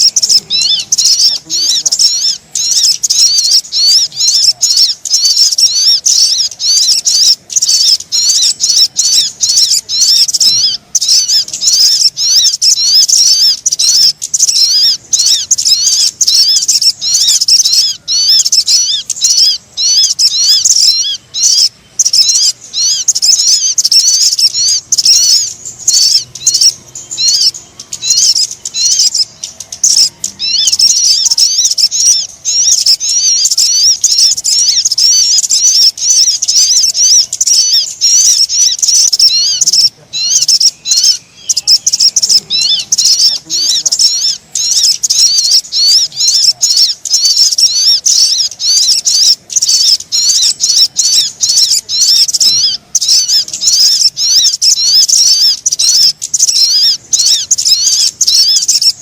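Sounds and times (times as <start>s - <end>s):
birds chirping rapidly: 0.0s - 59.0s.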